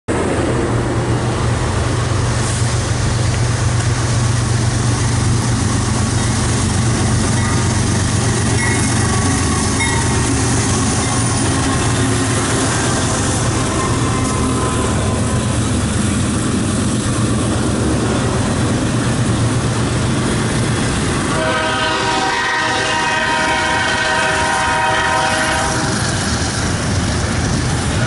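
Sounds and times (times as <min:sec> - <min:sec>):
diesel locomotive engine drone: 0:00.1 - 0:28.0.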